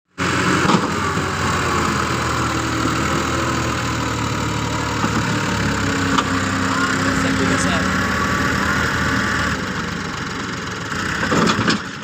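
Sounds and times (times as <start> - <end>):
power tiller engine running: 0.1 - 12.0.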